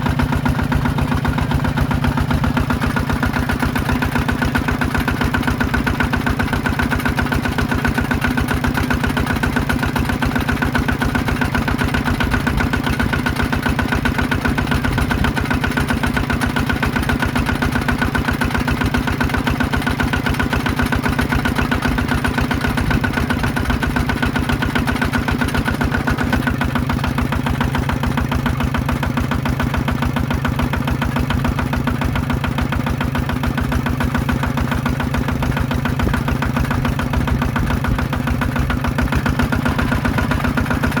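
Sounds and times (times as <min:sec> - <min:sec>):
small diesel engine chugging: 0:00.0 - 0:41.0.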